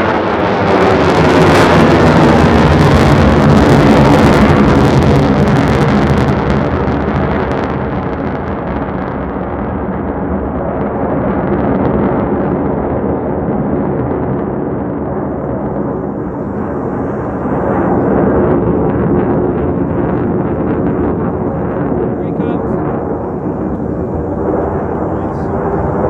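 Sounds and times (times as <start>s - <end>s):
jet roar flying past: 0.0s - 26.0s.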